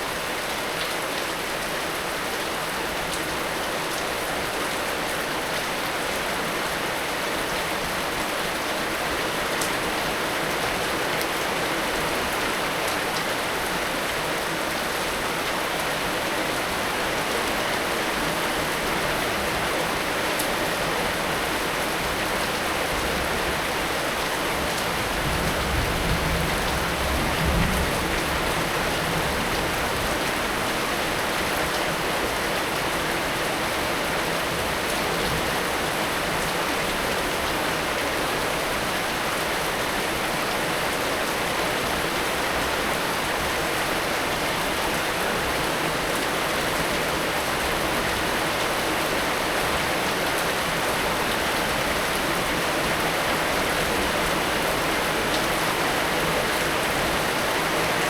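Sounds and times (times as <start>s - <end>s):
heavy rain falling: 0.1s - 58.0s.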